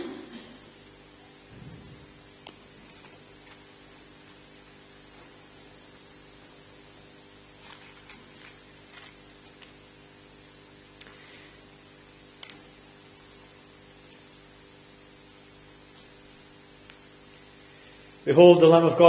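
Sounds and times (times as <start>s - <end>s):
microphone hiss and mains hum: 0.0s - 19.0s.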